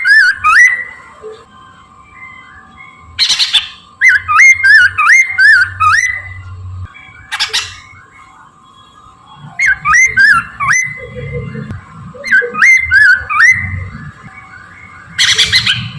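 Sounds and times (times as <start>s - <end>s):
bird singing whistled notes: 0.0s - 15.9s.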